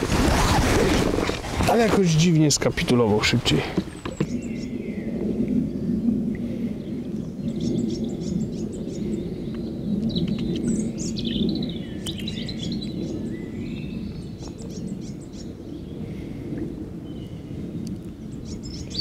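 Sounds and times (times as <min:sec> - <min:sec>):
low rumble: 0:00.0 - 0:19.0
small birds chirping: 0:03.6 - 0:19.0.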